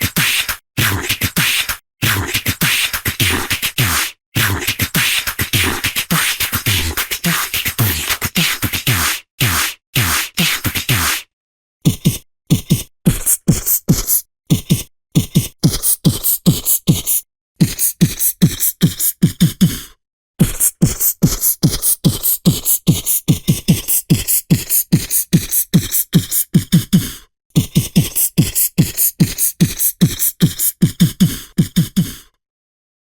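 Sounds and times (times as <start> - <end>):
beatboxing: 0.0 - 19.6, 20.4 - 32.3.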